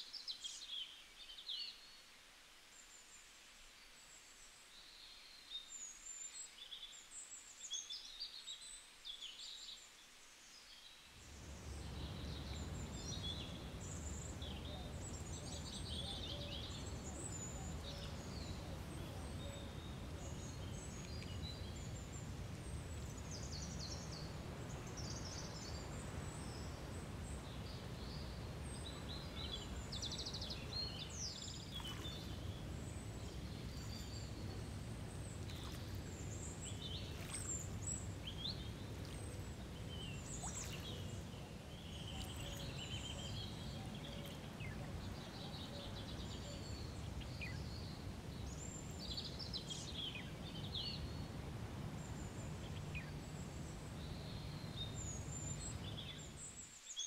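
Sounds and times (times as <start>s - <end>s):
small birds chirping: 11.3s - 57.0s.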